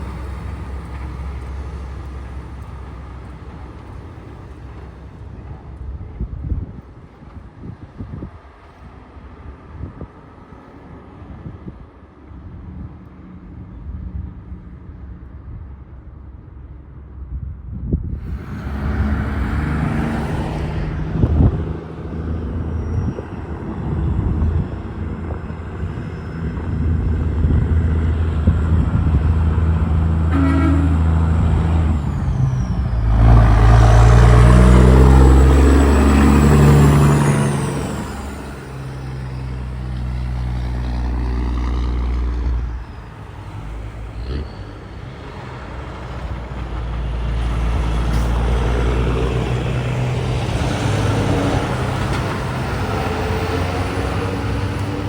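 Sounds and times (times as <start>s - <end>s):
diesel truck passing by: 0.0s - 11.8s, 18.1s - 55.0s.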